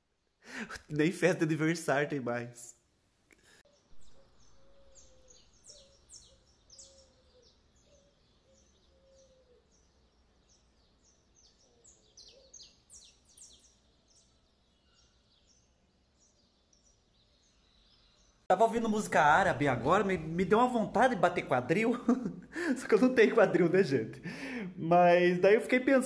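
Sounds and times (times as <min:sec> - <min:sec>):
birds chirping: 0:03.4 - 0:26.0.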